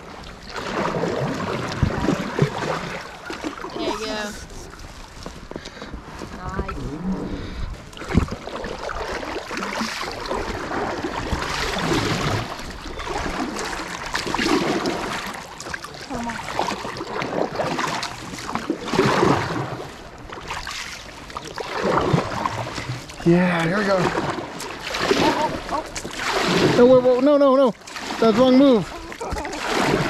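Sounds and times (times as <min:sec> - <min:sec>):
kayak paddles splashing: 0:00.0 - 0:30.0
steady wash of water: 0:00.0 - 0:30.0.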